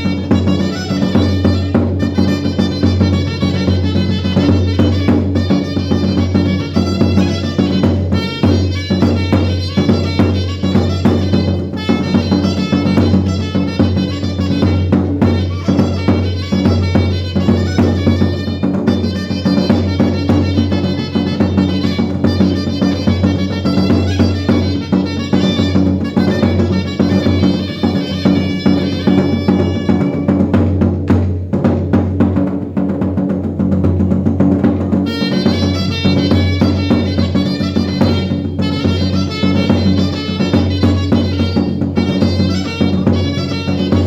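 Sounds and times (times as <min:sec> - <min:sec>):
pitched instruments: 0:00.0 - 0:30.6, 0:34.8 - 0:44.0
drums keeping a steady beat: 0:00.0 - 0:44.0.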